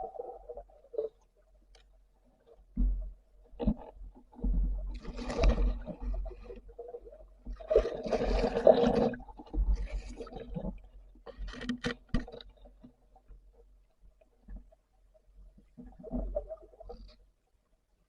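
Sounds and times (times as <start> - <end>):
water sloshing and gurgling: 0.0 - 17.8.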